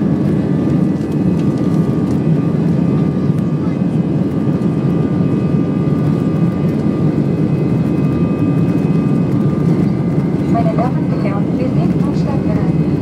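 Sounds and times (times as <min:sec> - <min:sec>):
jet engines low rumble in cabin: 0:00.0 - 0:13.0
thin steady engine whine: 0:00.0 - 0:13.0.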